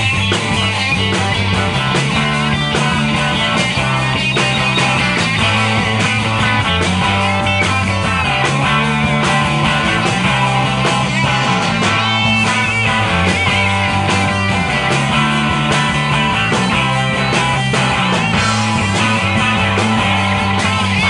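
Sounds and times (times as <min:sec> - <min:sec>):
bass guitar: 0:00.0 - 0:21.0
drum kit beat: 0:00.0 - 0:21.0
electric guitars: 0:00.0 - 0:21.0.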